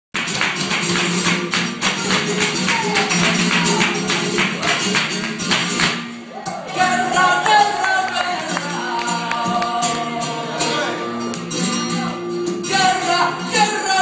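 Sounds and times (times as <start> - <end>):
flamenco percussive strikes: 0.2 - 13.8.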